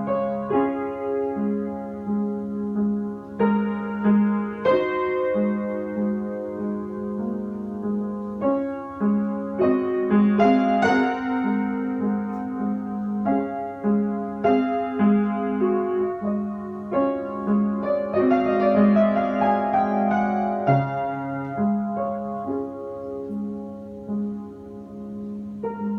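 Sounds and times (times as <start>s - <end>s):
slow gentle piano music: 0.0s - 25.9s.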